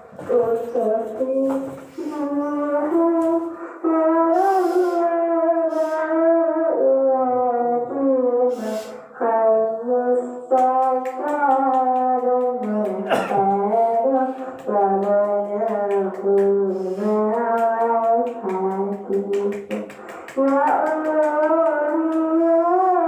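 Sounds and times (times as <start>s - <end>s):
voice holding long pitched tones: 0.0s - 23.0s.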